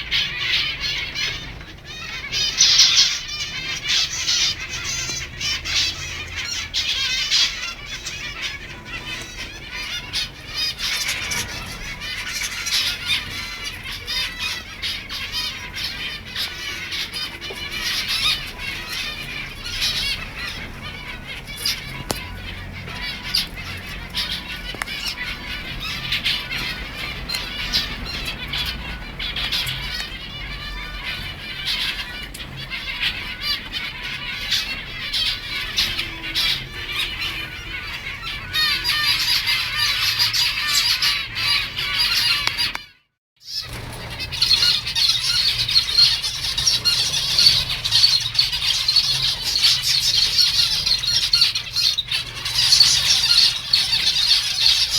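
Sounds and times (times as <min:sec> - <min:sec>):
finches chattering: 0:00.0 - 0:42.8, 0:43.4 - 0:54.9.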